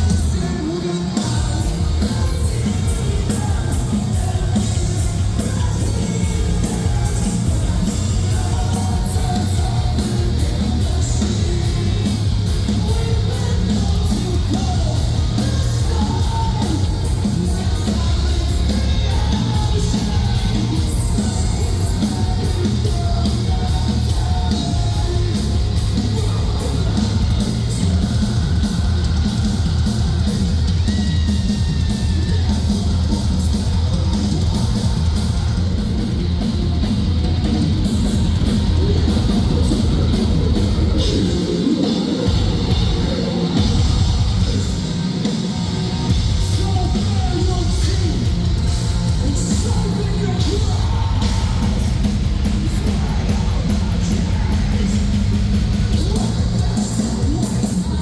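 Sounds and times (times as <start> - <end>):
fast drumming: 0.0 - 58.0
heavy rock band playing live: 0.0 - 58.0
screamed and sung vocals: 0.0 - 58.0.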